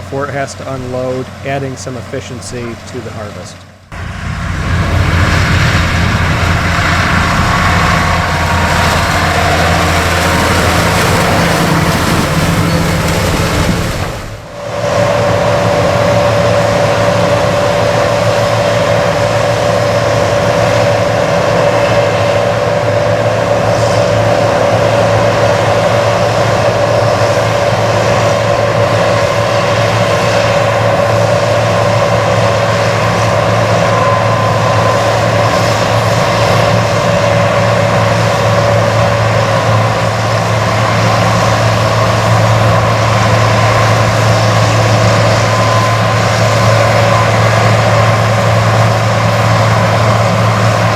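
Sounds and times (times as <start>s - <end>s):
combine harvester droning: 0.0s - 50.9s
high machine whine: 3.6s - 50.9s.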